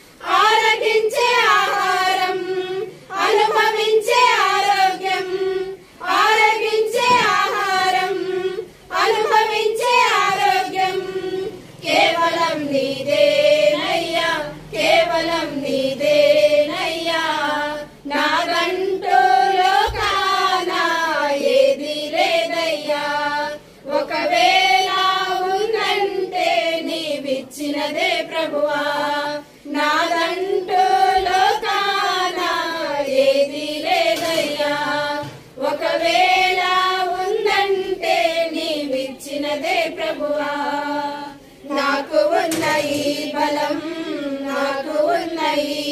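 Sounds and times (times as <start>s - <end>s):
women singing a hymn: 0.0s - 45.9s.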